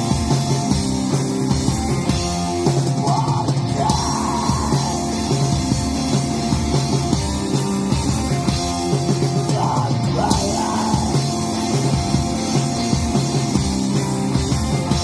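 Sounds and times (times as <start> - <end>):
live punk rock band: 0.0 - 15.0.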